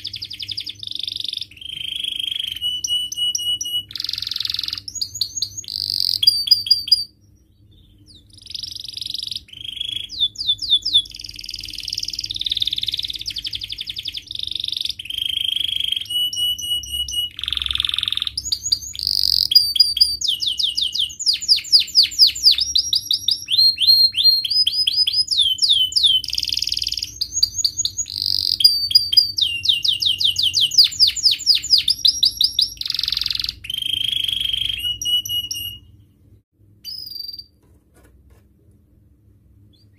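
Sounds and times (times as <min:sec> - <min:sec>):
canary singing: 0:00.0 - 0:37.6, 0:39.6 - 0:39.9.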